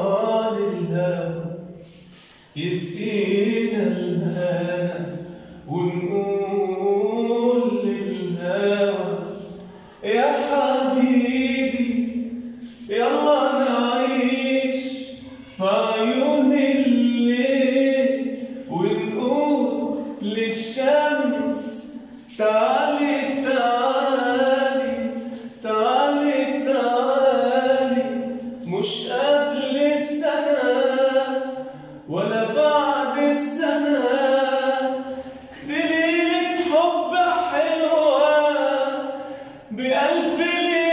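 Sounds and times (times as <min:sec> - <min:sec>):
man singing unaccompanied: 0:00.0 - 0:40.9.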